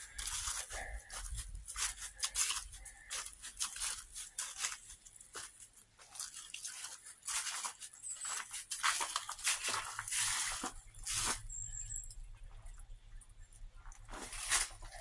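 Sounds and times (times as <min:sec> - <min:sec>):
footsteps crunching dry leaves: 0:00.0 - 0:11.5, 0:14.0 - 0:15.0.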